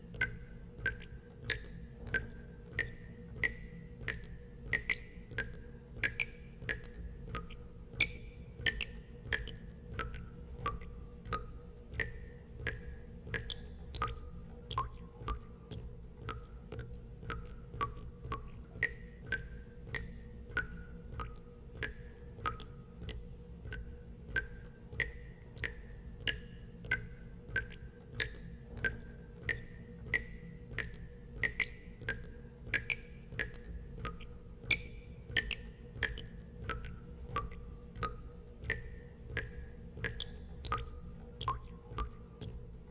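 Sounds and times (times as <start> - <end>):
steady low hum: 0.0 - 42.9
water drops plinking into water: 0.1 - 42.9.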